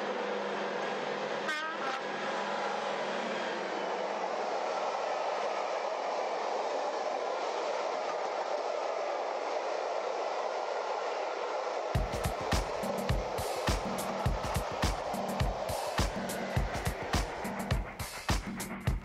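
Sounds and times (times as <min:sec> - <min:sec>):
model train motors whirring: 0:00.0 - 0:18.1.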